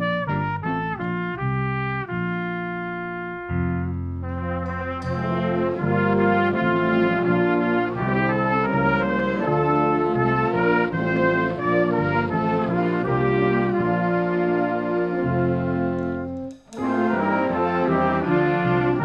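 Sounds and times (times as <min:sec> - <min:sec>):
brass ensemble playing: 0:00.0 - 0:19.0.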